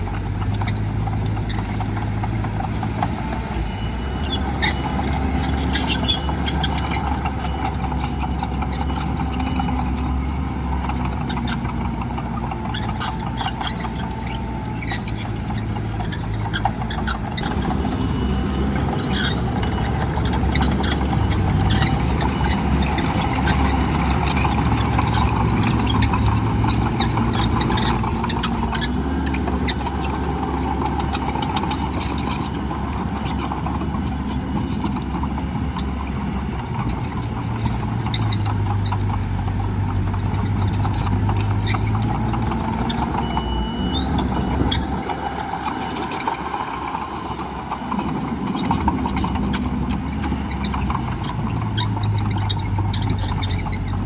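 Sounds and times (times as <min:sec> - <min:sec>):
diesel machinery engine: 0:00.0 - 0:54.0
clanks and rattles: 0:04.3 - 0:54.0.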